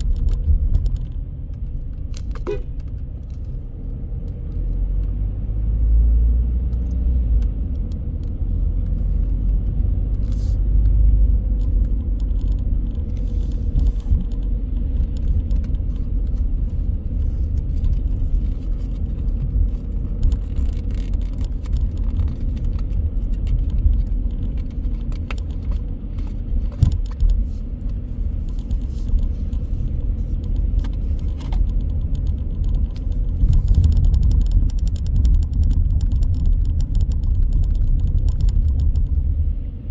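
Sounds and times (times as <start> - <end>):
faint clicks and ticks: 0.0 - 5.2, 6.7 - 39.4
road and engine rumble: 0.0 - 39.9.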